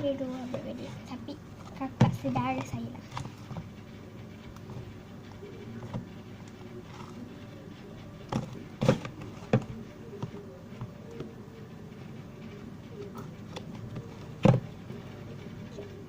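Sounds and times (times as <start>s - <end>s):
steady low background noise: 0.0s - 16.0s.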